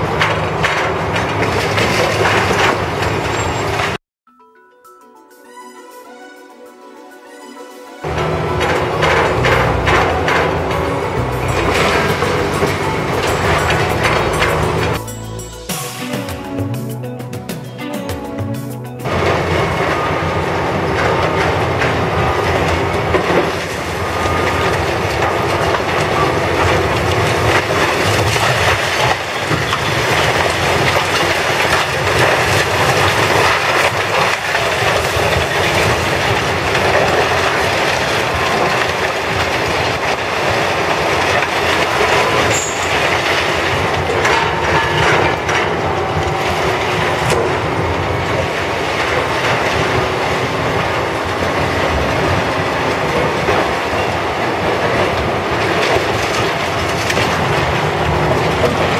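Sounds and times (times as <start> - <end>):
demolition machinery din: 0.0 - 4.0, 8.0 - 58.9
metal squealing and clanking: 0.1 - 4.0, 8.0 - 18.2, 18.8 - 58.9.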